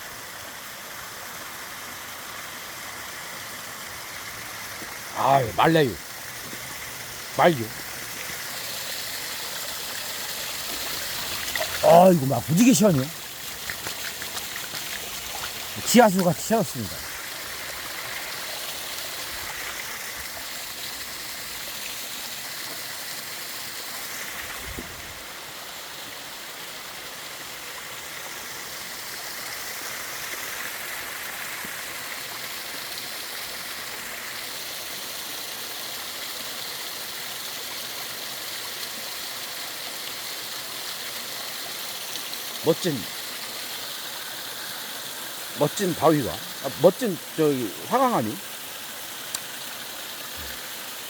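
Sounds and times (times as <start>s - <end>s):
stream running over rocks: 0.0s - 51.0s.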